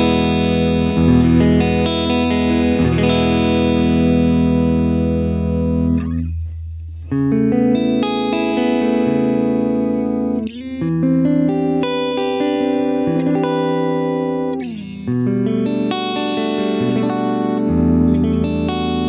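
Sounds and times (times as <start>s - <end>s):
clean electric guitar chords: 0.0s - 19.0s.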